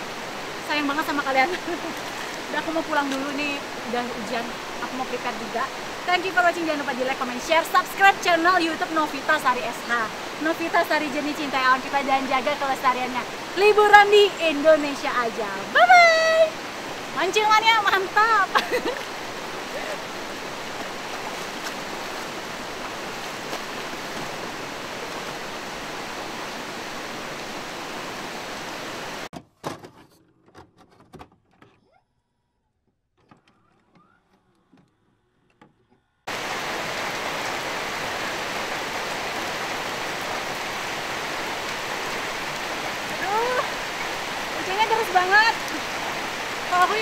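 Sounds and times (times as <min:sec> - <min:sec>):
river rushing over rocks: 0:00.0 - 0:29.3, 0:36.3 - 0:47.0.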